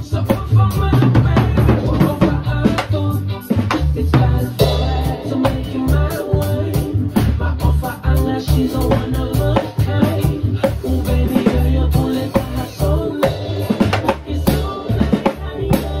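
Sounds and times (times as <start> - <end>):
drum kit playing: 0.0 - 16.0
recorded song with bass and singing: 0.0 - 16.0.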